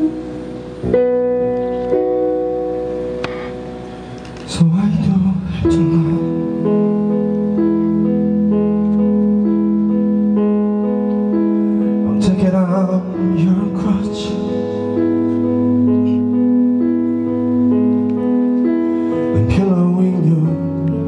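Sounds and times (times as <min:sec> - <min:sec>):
electric bass: 0:00.0 - 0:21.0
electric keyboard chords: 0:00.0 - 0:21.0.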